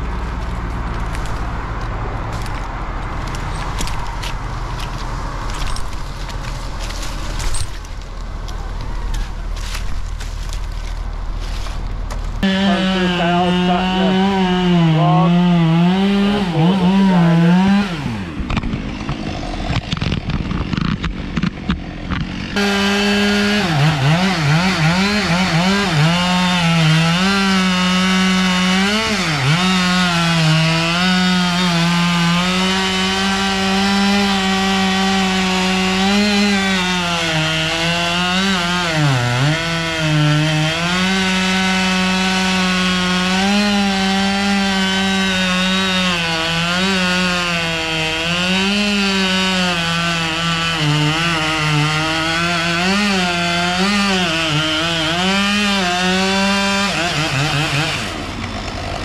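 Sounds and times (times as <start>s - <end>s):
chainsaw cutting wood: 2.2s - 59.0s.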